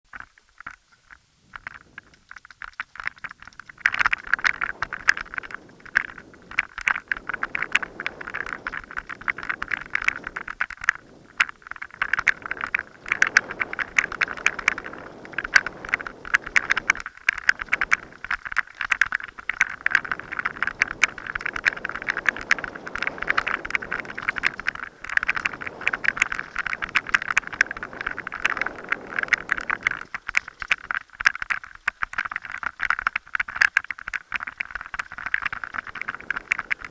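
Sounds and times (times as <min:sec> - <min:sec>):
bike clattering and rattling: 0:00.1 - 0:36.9.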